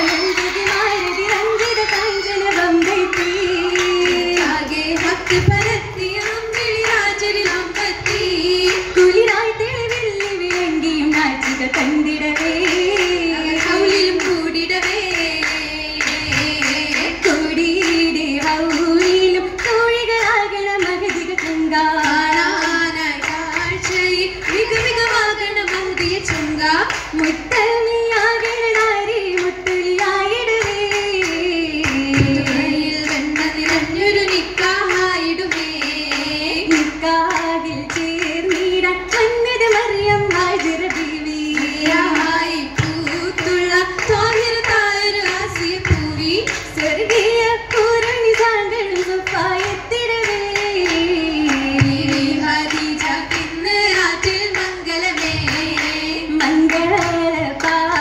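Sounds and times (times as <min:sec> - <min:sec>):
hand claps: 0:00.0 - 0:58.0
women singing in unison: 0:00.0 - 0:58.0.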